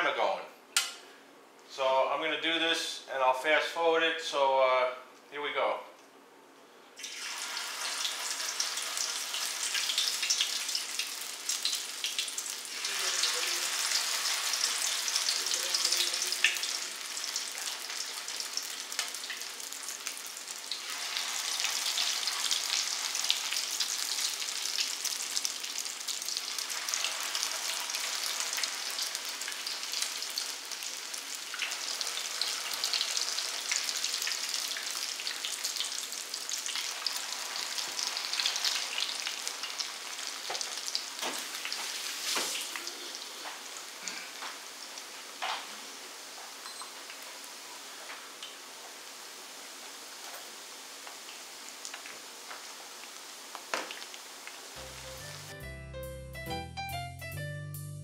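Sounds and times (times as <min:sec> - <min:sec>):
batter sizzling in hot oil: 0:07.0 - 0:55.5.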